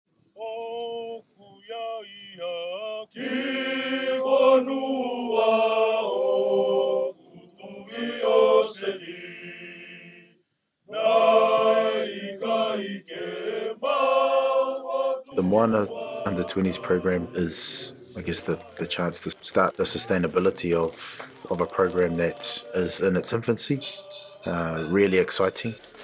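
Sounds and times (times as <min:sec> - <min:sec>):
voices chanting: 0:00.4 - 0:10.2, 0:10.9 - 0:25.8.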